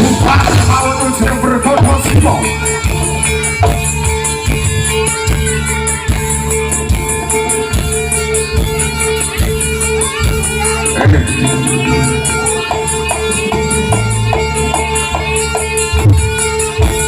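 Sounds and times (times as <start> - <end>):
regular drum beat: 0.0 - 17.0
traditional ensemble music: 0.0 - 17.0.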